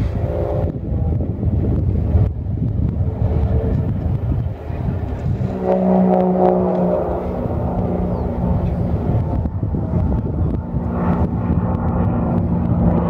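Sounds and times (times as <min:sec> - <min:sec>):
propeller plane engine drone: 0:00.0 - 0:13.0
wind rumbling on microphone: 0:00.0 - 0:13.0.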